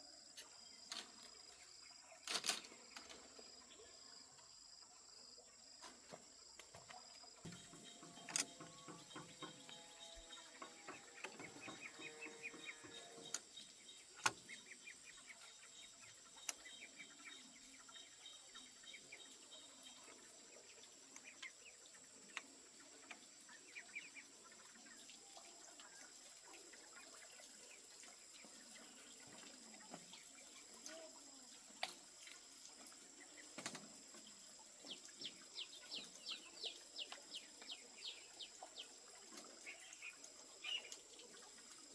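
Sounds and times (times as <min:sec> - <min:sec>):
birds chirping: 0:06.7 - 0:41.9
insect drone: 0:07.4 - 0:41.9.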